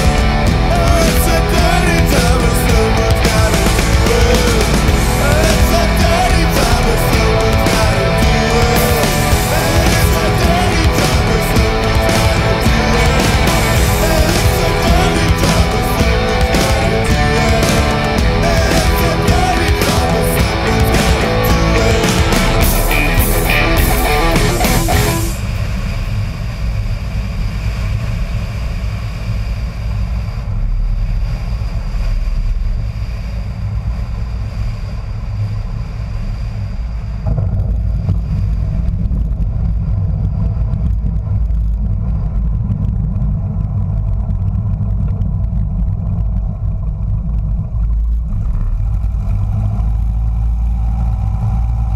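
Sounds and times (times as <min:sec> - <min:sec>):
propeller airplane engine droning: 0:00.0 - 0:51.9.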